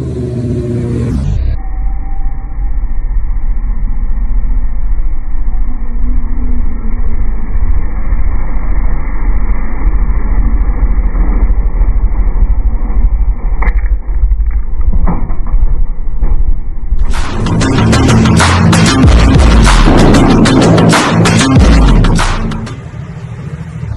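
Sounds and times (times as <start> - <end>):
vehicle engine rumbling: 0.0 - 23.9.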